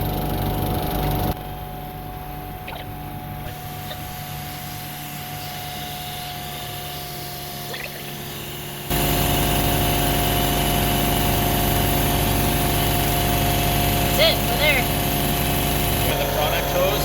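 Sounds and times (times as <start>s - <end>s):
pump humming with whine: 0.0s - 17.0s.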